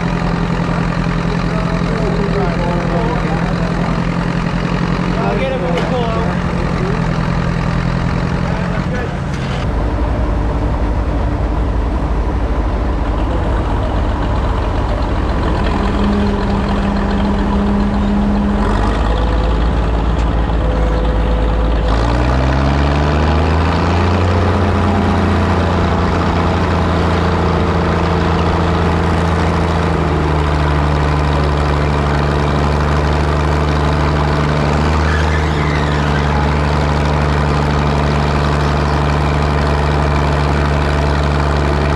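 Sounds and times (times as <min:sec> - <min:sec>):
tractor engine revving: 0:00.0 - 0:41.9.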